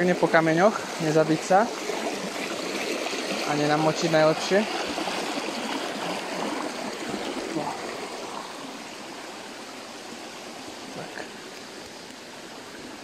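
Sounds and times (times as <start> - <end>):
stream splashing over stones: 0.0 - 13.0.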